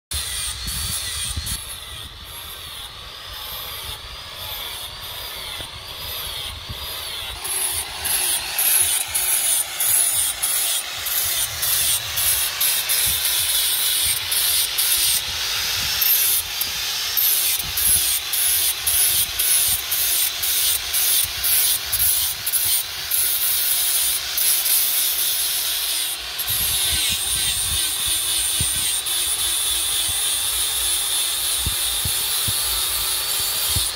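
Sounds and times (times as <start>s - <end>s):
angle grinder grinding steel: 0.1s - 33.9s.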